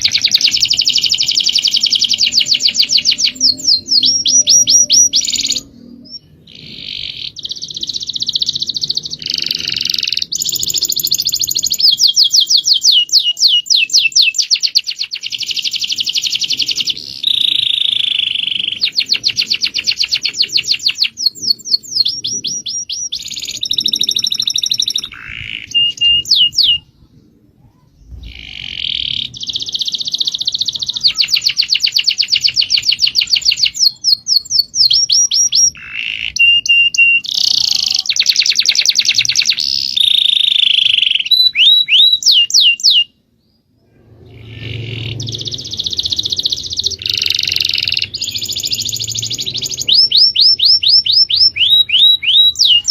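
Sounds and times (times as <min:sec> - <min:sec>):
songbird trilling: 0:00.0 - 0:26.9, 0:28.1 - 0:43.1, 0:44.1 - 0:52.9.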